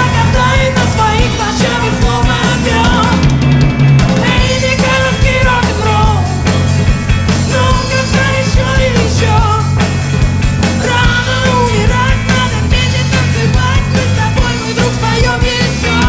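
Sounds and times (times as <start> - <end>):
drum kit beat: 0.0 - 16.0
rock and roll band playing: 0.0 - 16.0.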